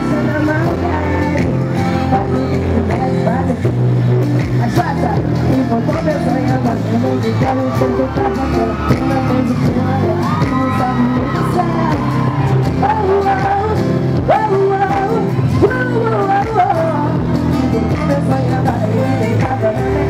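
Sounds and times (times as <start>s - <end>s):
live music through pa: 0.0s - 20.0s
woman singing into microphone: 0.0s - 20.0s.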